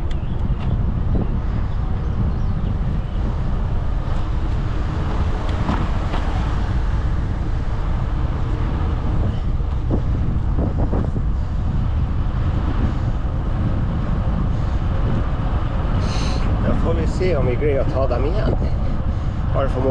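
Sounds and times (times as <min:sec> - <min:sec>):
road noise: 0:00.0 - 0:19.9
wind buffeting microphone: 0:00.0 - 0:19.9.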